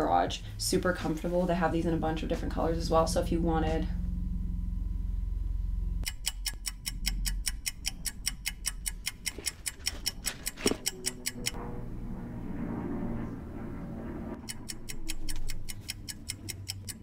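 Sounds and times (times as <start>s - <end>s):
helicopter rotor beating: 0.0s - 5.0s, 6.0s - 17.0s
low hum: 0.0s - 17.0s.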